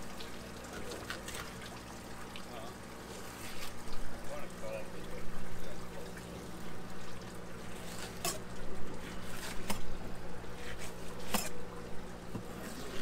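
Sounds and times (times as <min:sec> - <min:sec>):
steady low hum: 0:00.0 - 0:13.0
trickling water: 0:00.0 - 0:13.0.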